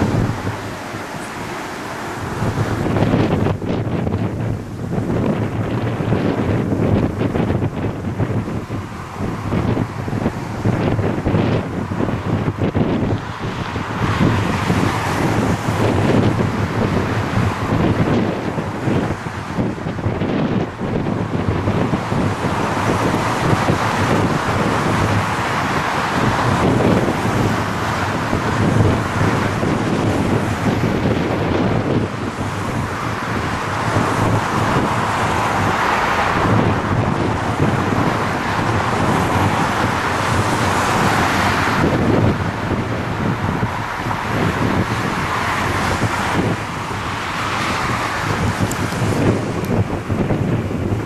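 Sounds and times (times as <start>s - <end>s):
jet engines at taxi power: 0.0s - 51.0s
wind buffeting microphone: 0.0s - 51.0s.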